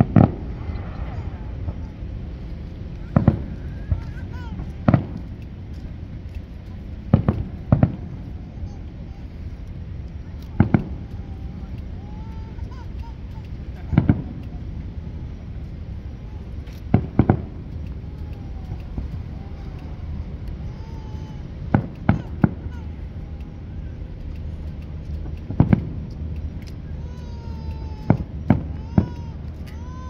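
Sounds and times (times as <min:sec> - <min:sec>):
firework shells booming: 0:00.0 - 0:20.8, 0:21.4 - 0:23.3, 0:24.1 - 0:26.8, 0:28.0 - 0:29.7
low background noise: 0:00.0 - 0:30.0.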